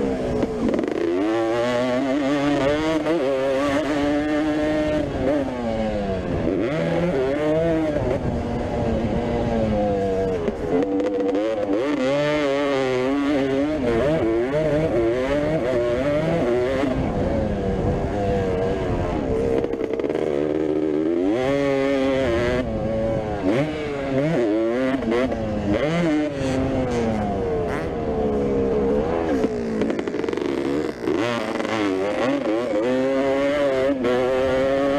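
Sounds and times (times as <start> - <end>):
motocross bike engine revving: 0.0 - 34.9.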